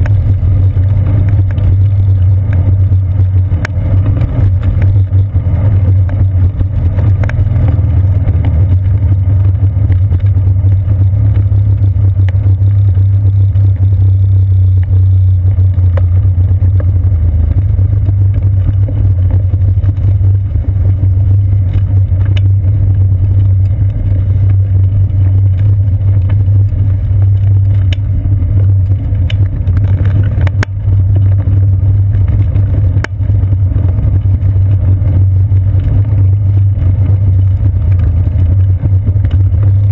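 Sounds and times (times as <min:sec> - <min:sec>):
bicycle rolling on wooden boardwalk: 0:00.0 - 0:39.9.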